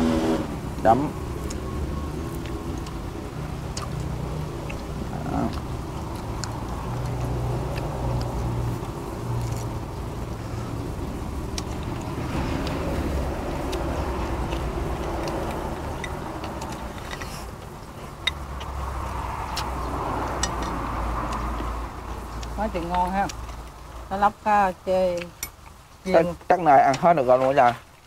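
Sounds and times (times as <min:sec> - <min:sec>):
steady low motor rumble: 0:00.0 - 0:26.0.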